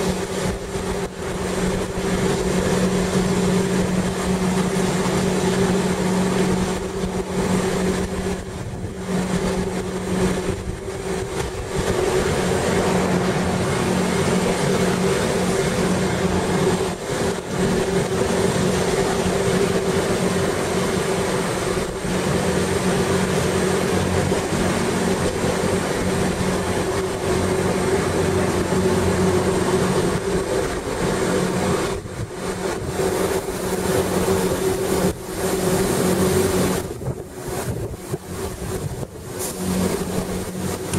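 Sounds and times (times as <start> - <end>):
electric train drive hum: 0.0 - 40.9
rumble of train wheels: 0.0 - 40.9.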